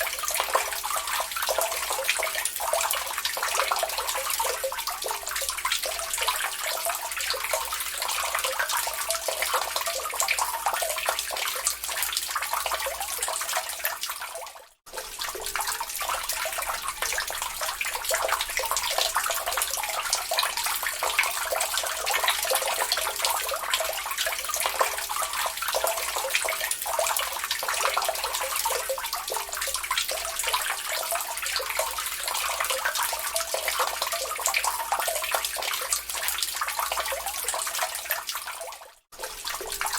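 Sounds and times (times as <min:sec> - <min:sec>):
water dripping into lake: 0:00.0 - 0:39.9.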